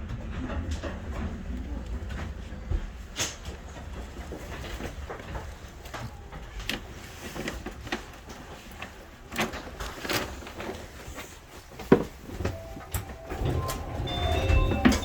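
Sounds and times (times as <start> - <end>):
monorail train rumbling: 0.0 - 15.0.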